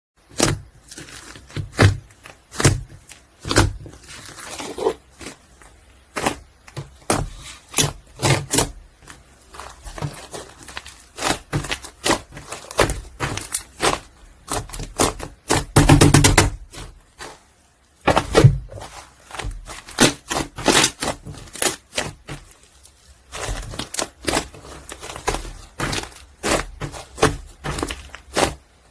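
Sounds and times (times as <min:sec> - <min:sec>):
foam slime crackling: 0:00.2 - 0:28.9.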